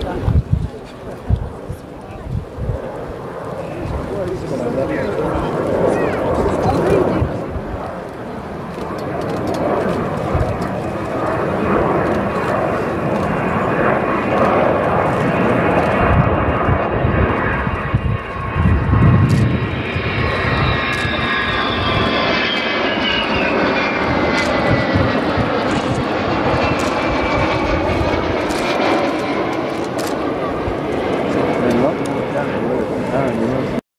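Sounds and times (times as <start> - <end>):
falling jet engine whine: 0.0 - 33.8
jet bomber flying by: 0.0 - 33.8.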